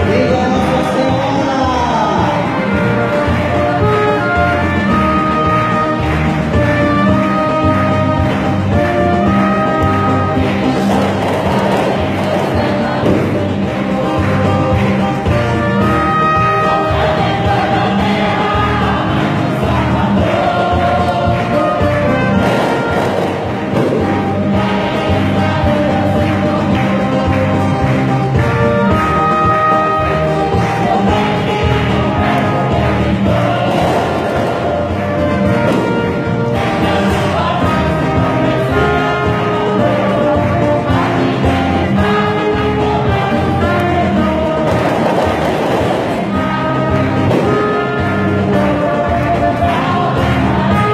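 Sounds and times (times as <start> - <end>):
choir singing a hymn: 0.0 - 50.9
trumpet playing held notes: 0.0 - 50.9.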